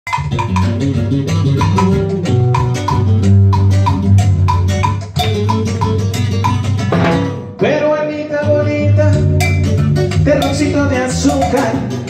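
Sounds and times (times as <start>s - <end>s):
woody percussion hits: 0.1s - 7.8s, 9.2s - 12.0s
latin dance band playing: 0.1s - 12.0s.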